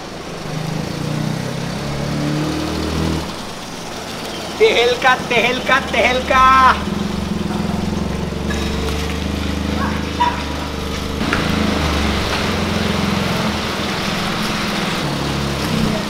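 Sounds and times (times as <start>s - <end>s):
rain hissing on wet paving: 0.0s - 16.0s
small car engine humming: 0.0s - 16.0s.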